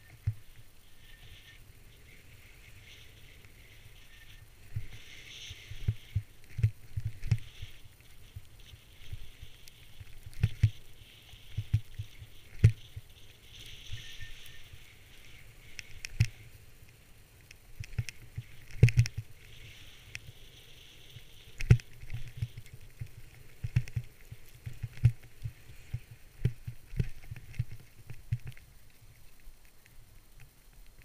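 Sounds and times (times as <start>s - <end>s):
snow rushing under skis: 0.0s - 29.2s.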